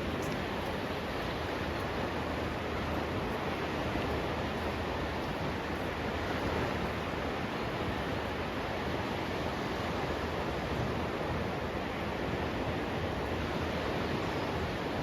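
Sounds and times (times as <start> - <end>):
sea surf rushing: 0.0 - 15.0.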